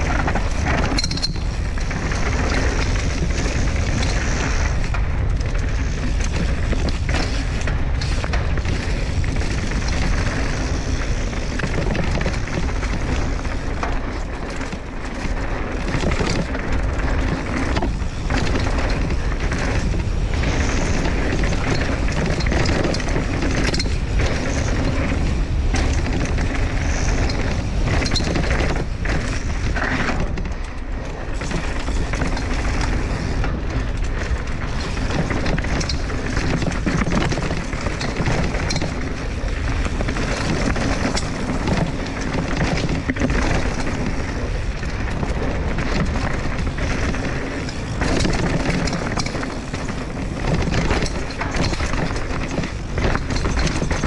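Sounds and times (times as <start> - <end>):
bike clicks and rattles: 0.0 - 54.0
wind and tyre noise: 0.0 - 54.0.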